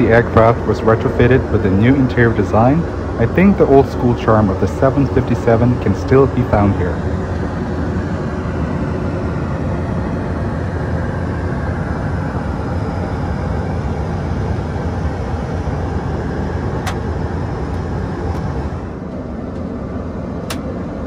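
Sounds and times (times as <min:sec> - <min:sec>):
airplane cabin roar: 0:00.0 - 0:21.0.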